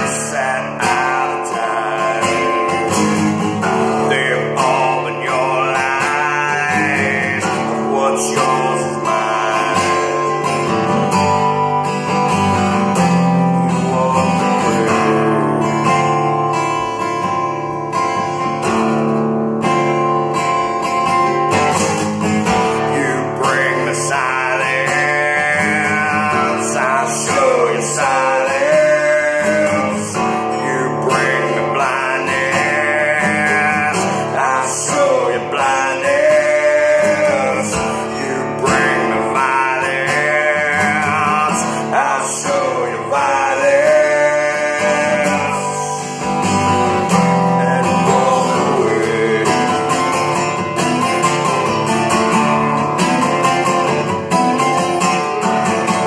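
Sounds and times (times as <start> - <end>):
man singing: 0.0 - 18.5, 21.5 - 51.8, 55.3 - 56.0
acoustic guitars playing: 0.0 - 56.0.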